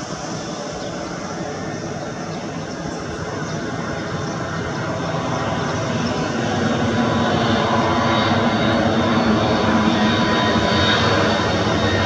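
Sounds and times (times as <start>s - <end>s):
jet engine whine and rumble: 0.0s - 12.0s.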